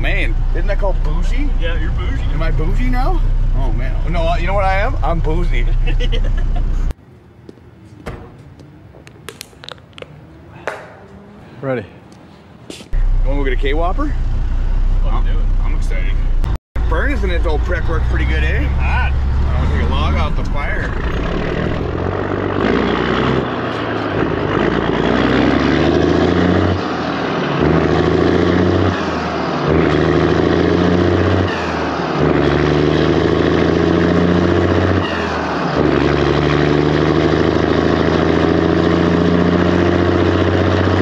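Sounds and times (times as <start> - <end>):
truck diesel engine shifting gears: 0.0 - 7.0, 8.4 - 12.2, 12.9 - 41.0.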